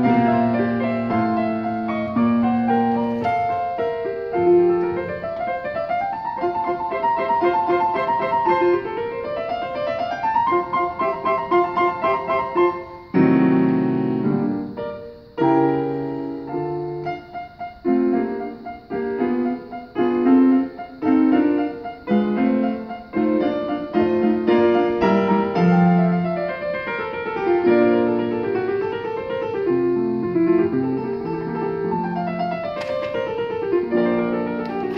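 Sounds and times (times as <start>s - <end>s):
piano duet: 0.0s - 34.9s.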